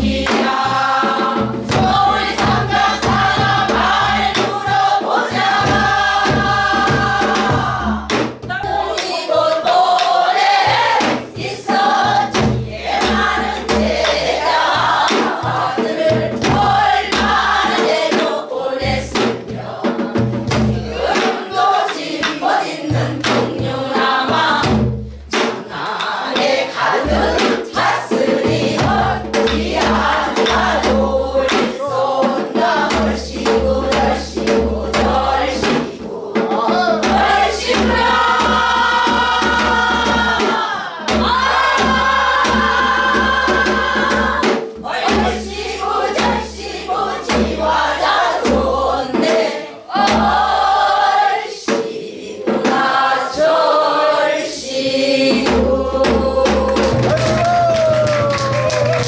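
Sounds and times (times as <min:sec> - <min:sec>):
barrel drum strokes: 0:00.0 - 0:53.4
choir singing in unison: 0:00.0 - 0:57.4.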